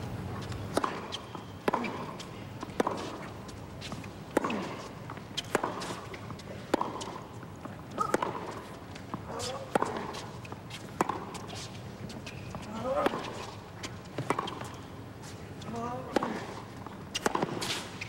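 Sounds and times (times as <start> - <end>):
footsteps on court: 0.0 - 18.0
tennis ball bouncing: 0.4 - 14.8, 15.6 - 17.8
racket hitting tennis ball: 0.5 - 13.6, 14.2 - 14.8, 15.7 - 18.0.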